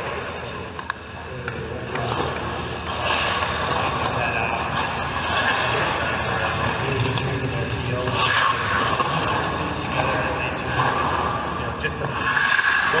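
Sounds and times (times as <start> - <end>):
skate blades scraping ice: 1.9 - 13.0.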